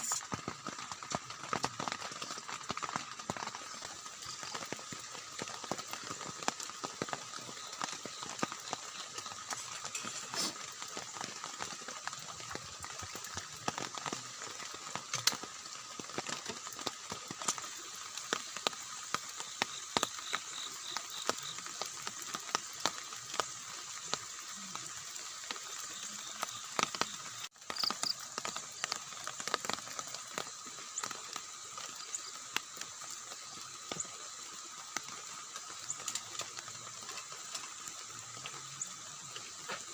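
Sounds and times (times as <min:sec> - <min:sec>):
rain pattering on tent: 0:00.0 - 0:39.9.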